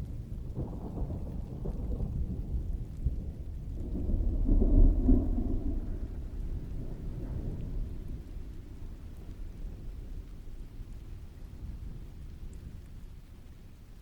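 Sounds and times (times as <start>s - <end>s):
steady rain: 0.0s - 14.0s
distant thunder rumble: 0.1s - 13.8s.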